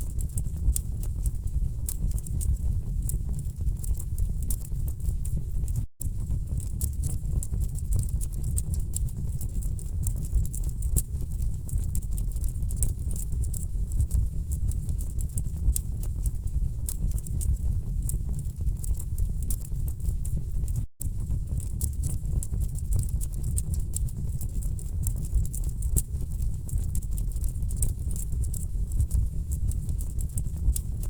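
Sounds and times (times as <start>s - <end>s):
low rumble of burning logs: 6.0s - 31.0s.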